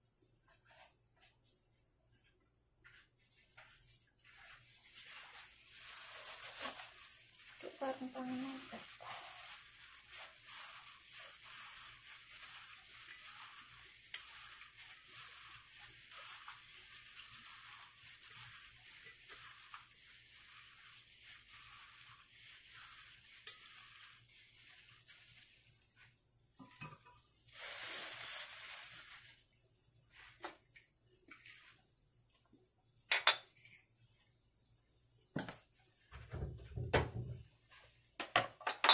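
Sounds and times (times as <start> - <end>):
rustling and handling noise: 0.2 - 34.4.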